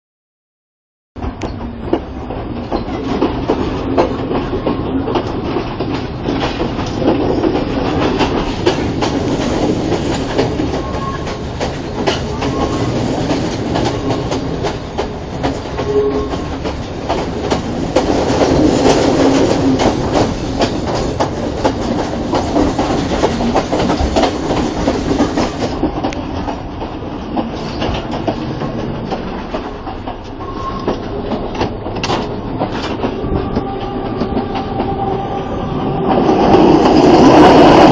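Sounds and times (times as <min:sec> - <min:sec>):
train wheels clattering over rails: 0:01.2 - 0:37.9.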